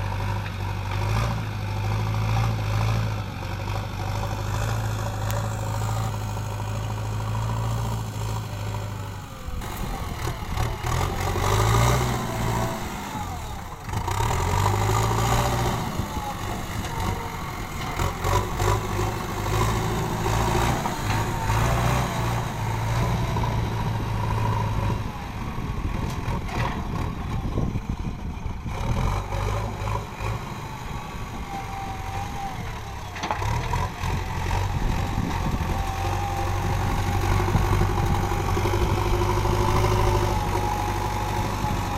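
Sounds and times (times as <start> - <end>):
diesel engine under varying load: 0.0 - 41.9.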